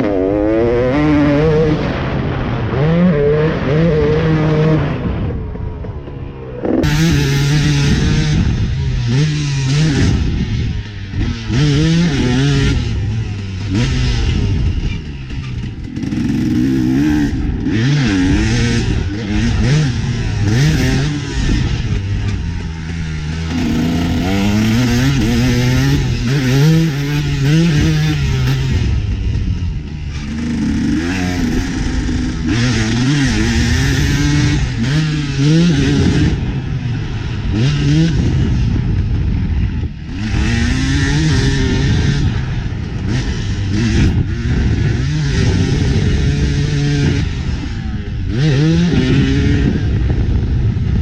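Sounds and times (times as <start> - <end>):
motocross engine revving: 0.0 - 50.5.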